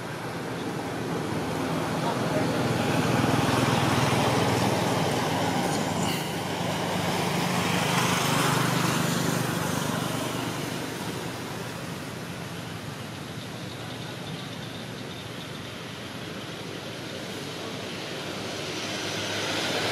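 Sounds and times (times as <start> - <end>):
road traffic rushing: 0.0 - 19.9.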